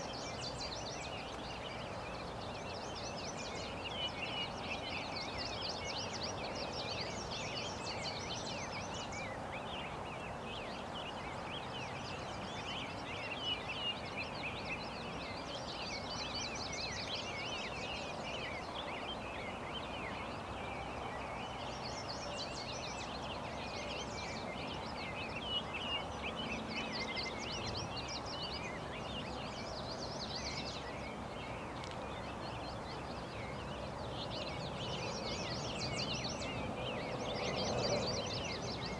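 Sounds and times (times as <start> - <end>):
outdoor background rush: 0.0 - 38.9
songbirds chirping: 0.0 - 38.9.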